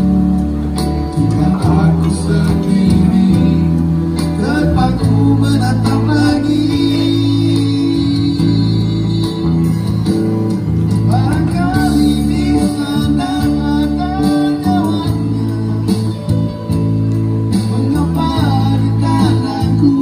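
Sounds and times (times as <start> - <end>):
live band through speakers: 0.0 - 20.0
person singing: 1.0 - 10.0, 11.0 - 16.5, 17.6 - 20.0.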